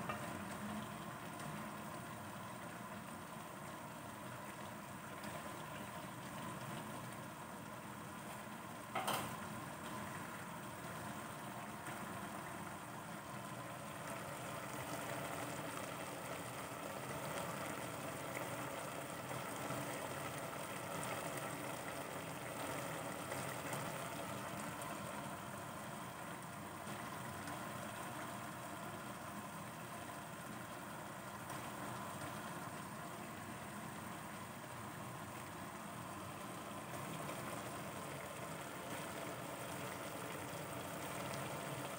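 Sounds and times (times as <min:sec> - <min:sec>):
stew bubbling in a pot: 0:00.0 - 0:41.9.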